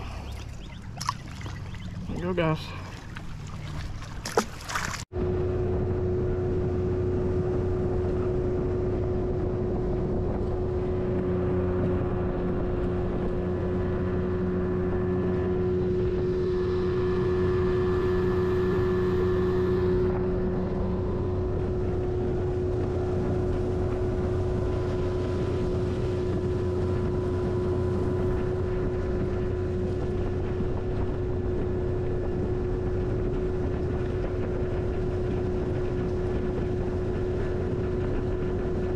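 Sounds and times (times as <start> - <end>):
outboard motor drone: 0.0 - 38.9.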